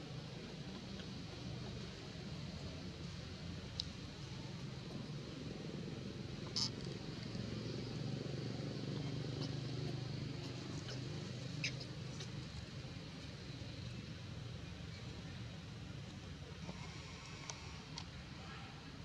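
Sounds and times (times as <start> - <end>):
distant vehicle engine hum: 0.0 - 18.9.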